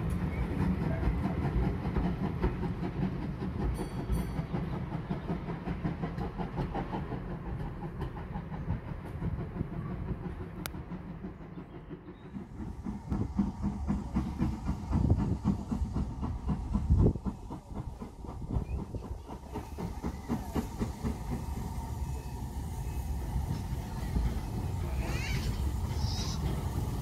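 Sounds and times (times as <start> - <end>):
train rumble: 0.0 - 27.0
wheels clacking over rail joints: 0.0 - 27.0.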